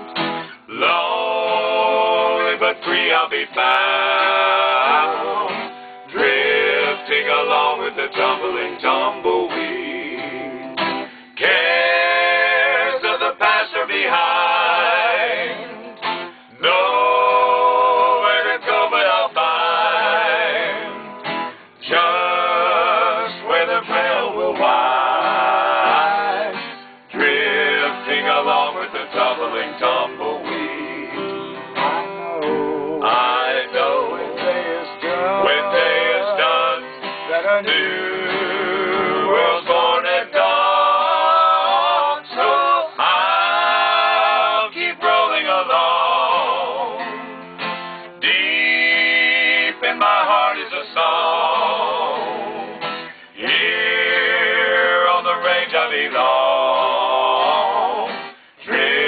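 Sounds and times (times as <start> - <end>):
slow country music with guitar: 0.0 - 45.8, 46.4 - 56.3, 57.6 - 59.0.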